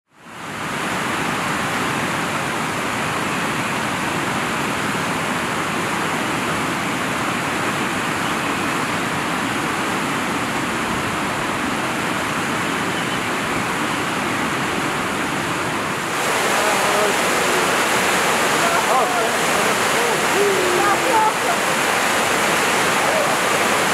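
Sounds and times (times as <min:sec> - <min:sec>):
flooded river rushing: 0:00.1 - 0:23.9.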